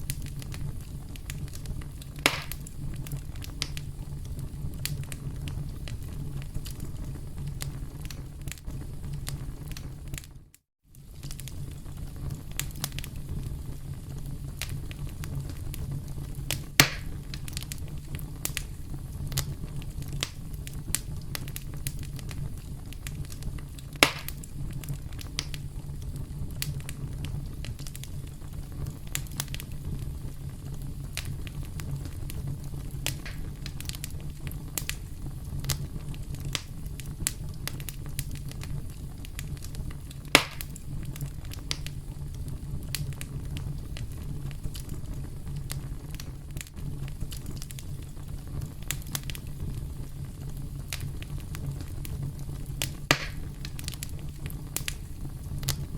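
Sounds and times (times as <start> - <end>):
campfire crackling: 0.0 - 55.9
loud fire pops: 0.0 - 55.9.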